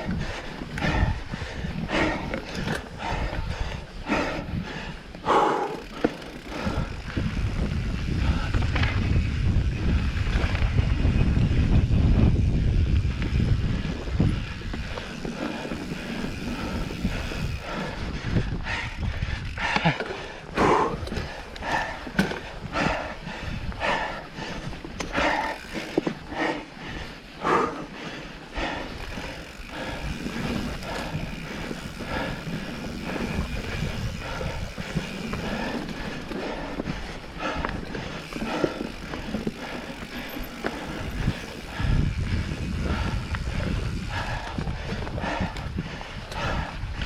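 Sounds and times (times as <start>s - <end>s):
heavy breathing: 0.0s - 9.1s, 13.5s - 47.0s
bike tyres on dirt trail: 0.0s - 47.0s
wind buffeting microphone: 0.0s - 47.0s.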